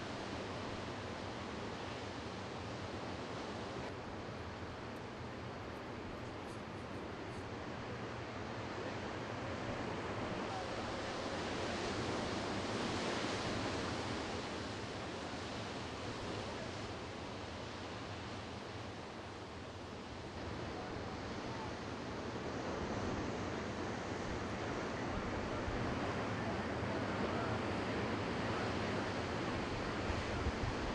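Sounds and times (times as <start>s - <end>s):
ocean surf on rocks: 0.0s - 30.9s
wind: 0.0s - 30.9s.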